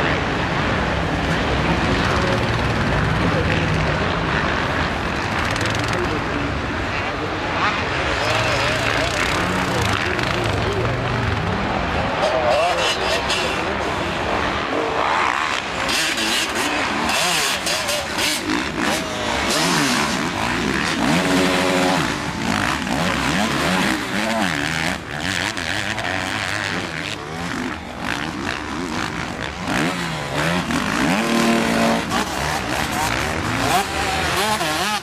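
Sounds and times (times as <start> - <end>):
motocross bikes revving: 0.0 - 35.0.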